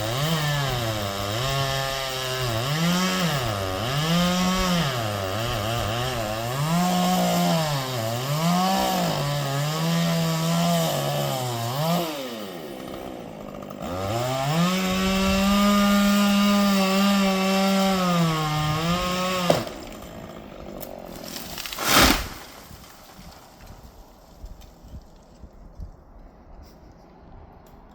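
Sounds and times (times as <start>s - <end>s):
chainsaw cutting wood: 0.0s - 25.1s.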